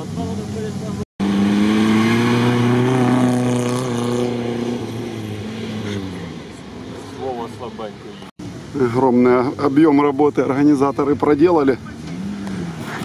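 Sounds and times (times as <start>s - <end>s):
off-road vehicle engine pulling: 0.0s - 13.0s.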